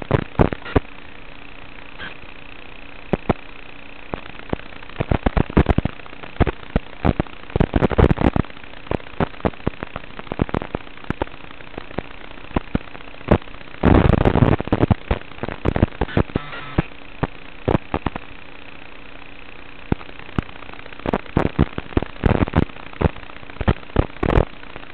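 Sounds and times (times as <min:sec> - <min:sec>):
crackling static clicks and pops: 0:00.0 - 0:24.9
steady hiss and hum: 0:00.0 - 0:24.9.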